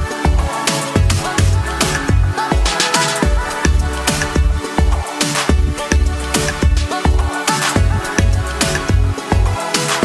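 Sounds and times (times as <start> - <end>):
electronic music with heavy bass beat: 0.0 - 10.0.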